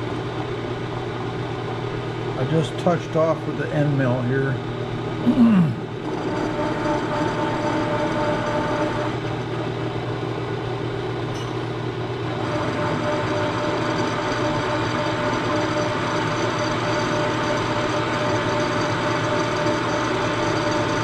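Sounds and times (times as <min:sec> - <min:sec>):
milling machine hum: 0:00.0 - 0:21.0.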